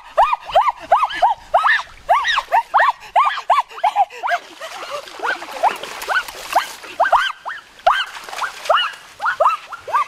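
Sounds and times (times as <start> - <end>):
feet splashing in shallow water: 0.0 - 10.0.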